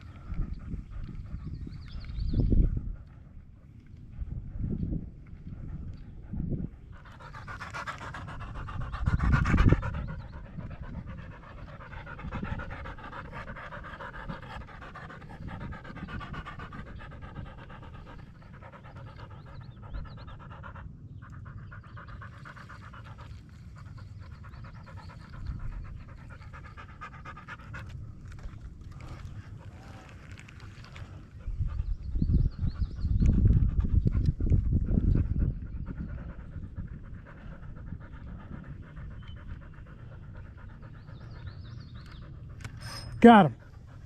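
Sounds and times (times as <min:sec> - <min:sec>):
dog panting: 0:00.0 - 0:44.0.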